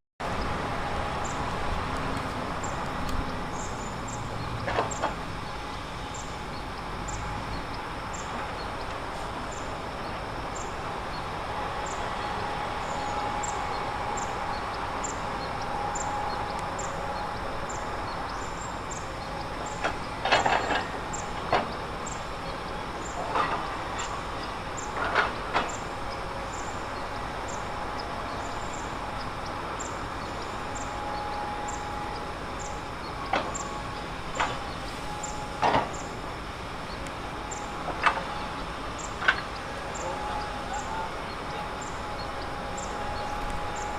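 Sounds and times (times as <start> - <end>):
heavy earthmoving machinery running: 0.2 - 43.9.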